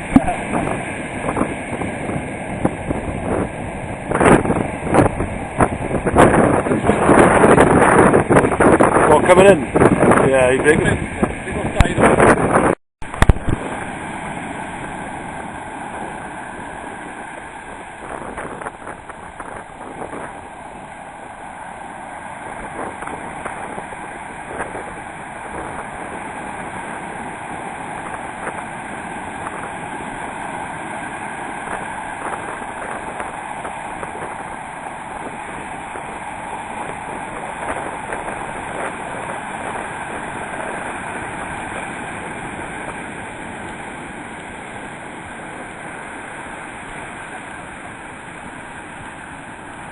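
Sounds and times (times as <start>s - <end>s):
surf breaking and rushing water: 0.0s - 49.9s.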